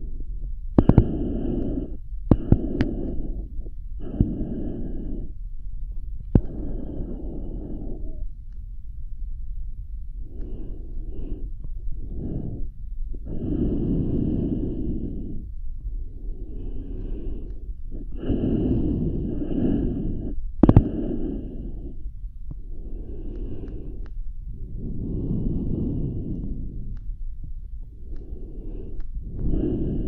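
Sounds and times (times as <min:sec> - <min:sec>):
person breathing heavily: 0:00.0 - 0:08.6, 0:10.1 - 0:30.0.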